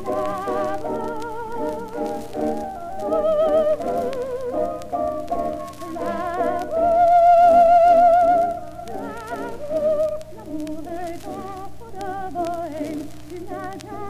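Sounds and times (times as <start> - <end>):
operatic soprano singing: 0.0 - 14.0
record surface clicks: 0.0 - 14.0.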